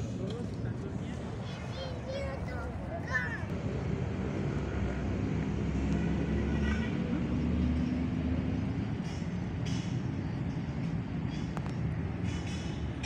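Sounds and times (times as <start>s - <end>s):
heavy vehicle engine running: 0.0s - 13.0s.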